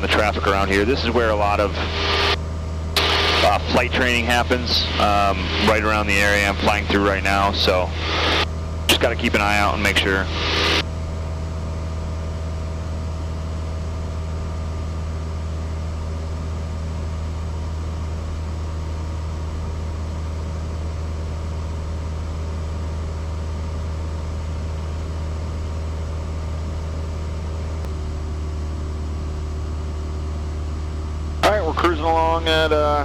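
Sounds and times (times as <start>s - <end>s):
light aircraft engine droning: 0.0s - 33.0s.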